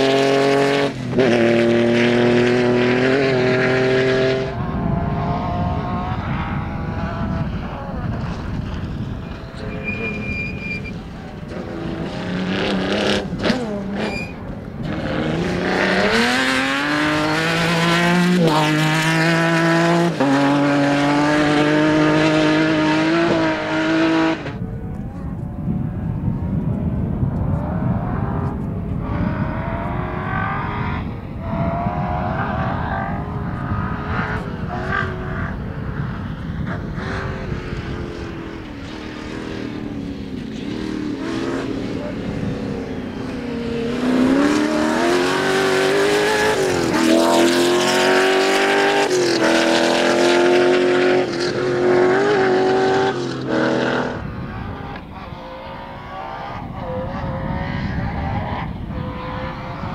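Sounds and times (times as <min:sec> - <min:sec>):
distant rally car engine: 0:00.0 - 0:59.9
rally car engine revving: 0:00.0 - 0:59.9.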